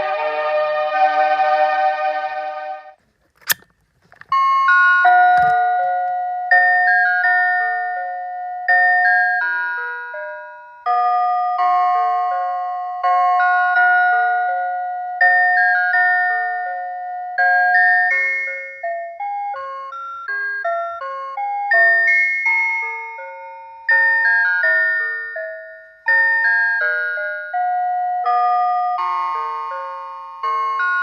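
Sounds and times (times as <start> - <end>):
alarm clock bell-like melody: 0.0 - 3.0, 4.3 - 31.0.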